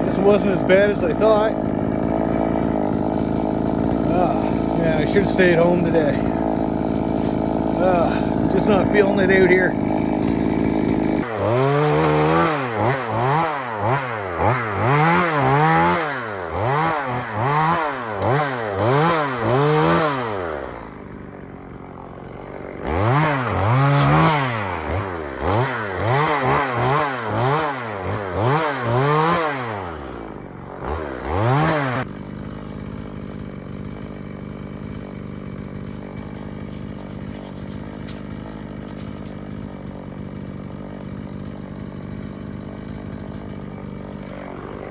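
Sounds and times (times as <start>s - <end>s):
chainsaw revving and idling: 0.0s - 44.9s.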